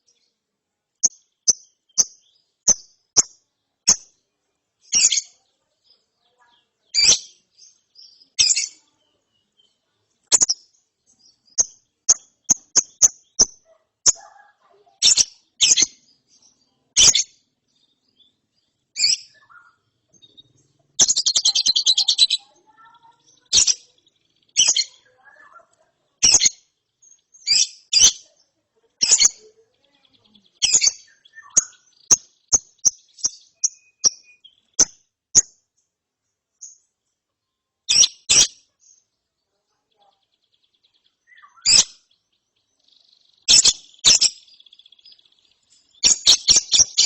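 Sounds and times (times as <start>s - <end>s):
lovebird chirping: 1.0s - 47.0s.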